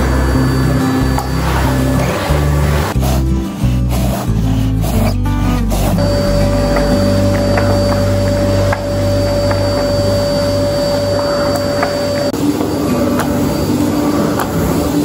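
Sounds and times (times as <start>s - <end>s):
vacuum cleaner running: 0.0s - 3.2s, 5.7s - 15.0s.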